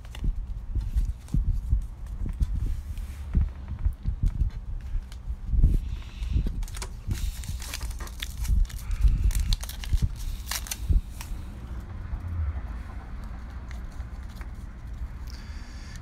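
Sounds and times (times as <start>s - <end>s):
trading cards clicking and crackling: 0.0s - 12.4s, 13.1s - 16.0s.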